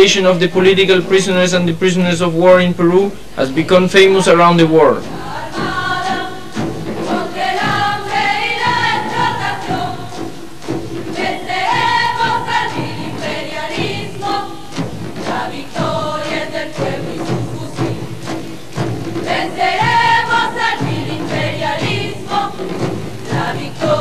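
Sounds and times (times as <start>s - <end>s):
large group singing in unison: 0.0s - 24.0s.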